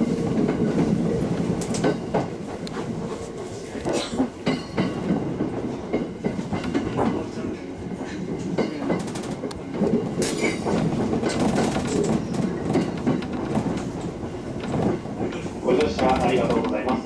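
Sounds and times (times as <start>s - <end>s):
train running noise: 0.0s - 17.0s
train wheels clicking on rails: 0.0s - 17.0s.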